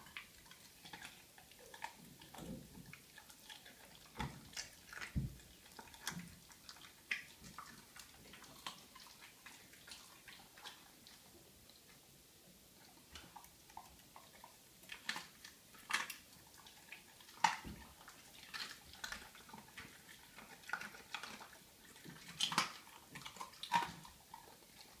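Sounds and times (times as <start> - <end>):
dog eating wet mouthing: 0.0 - 12.0, 12.8 - 25.0.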